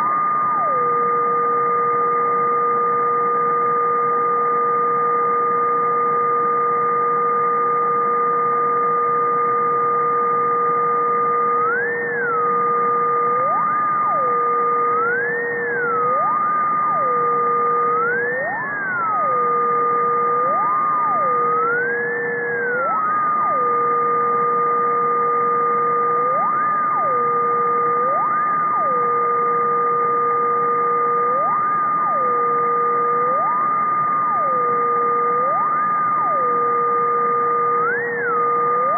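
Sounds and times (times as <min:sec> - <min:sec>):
gliding electronic whistling tones: 0:00.6 - 0:33.6.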